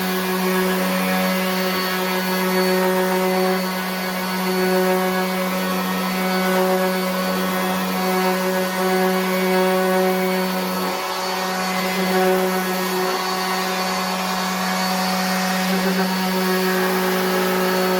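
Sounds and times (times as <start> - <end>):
orbit sander buzzing on wood: 0.0 - 17.9.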